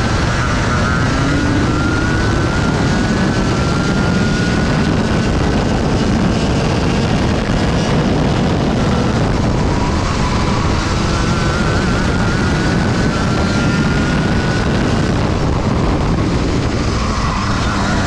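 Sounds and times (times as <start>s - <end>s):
kart engine at high revs: 0.0s - 18.0s
steady rushing noise: 0.0s - 18.0s.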